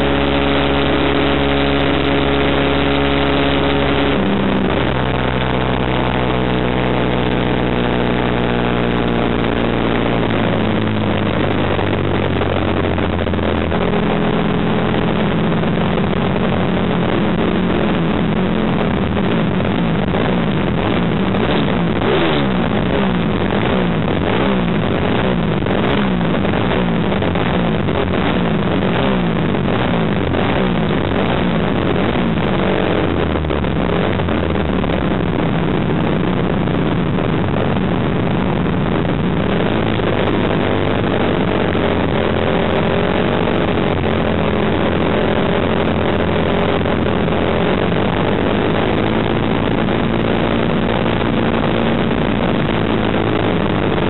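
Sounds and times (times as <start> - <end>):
racing motorcycle engine: 0.0 - 54.0.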